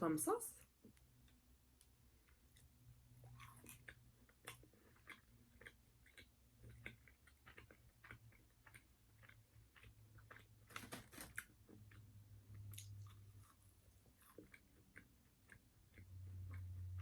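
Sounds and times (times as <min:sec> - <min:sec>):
chewing crunchy chicken: 0:02.2 - 0:17.0.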